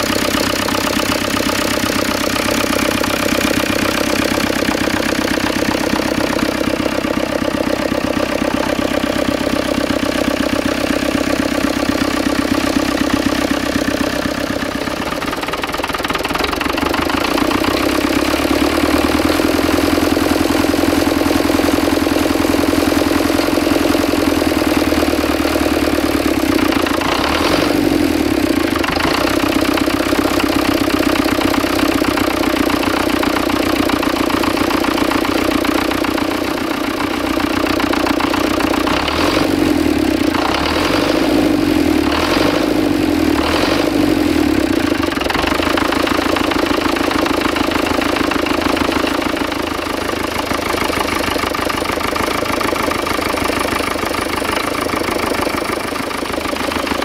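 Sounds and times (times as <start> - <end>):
tractor diesel engine idling: 0.0 - 57.0.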